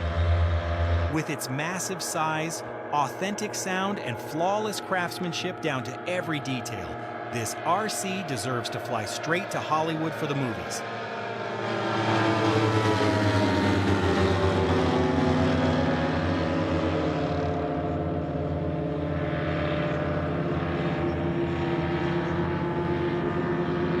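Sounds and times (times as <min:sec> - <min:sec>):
model airplane engines droning: 0:00.0 - 0:24.0.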